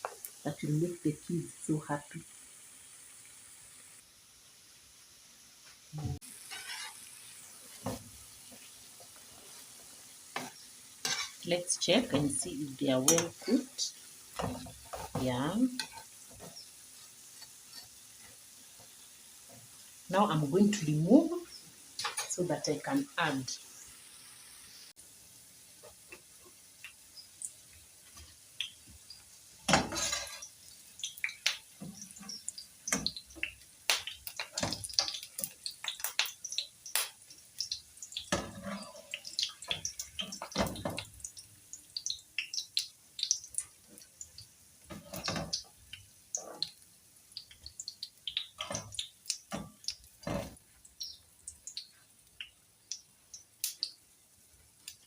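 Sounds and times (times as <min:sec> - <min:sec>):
hot oil popping and crackling: 0:00.0 - 0:55.0.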